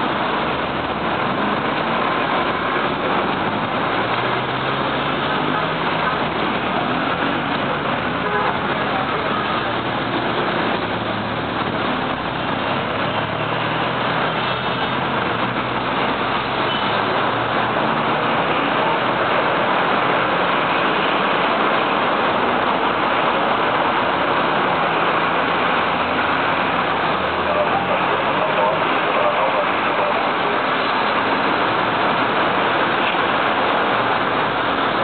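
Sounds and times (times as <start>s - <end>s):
heavy road traffic passing: 0.0s - 35.0s.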